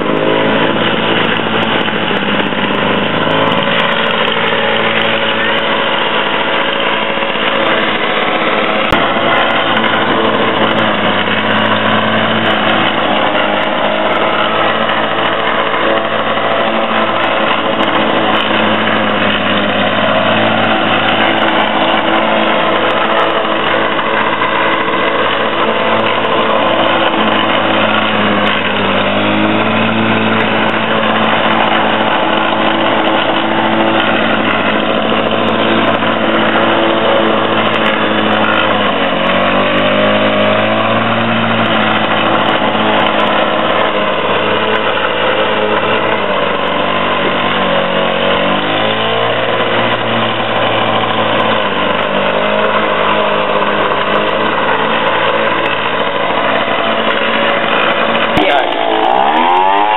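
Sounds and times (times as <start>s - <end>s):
lawn mower cutting grass: 0.0s - 59.9s.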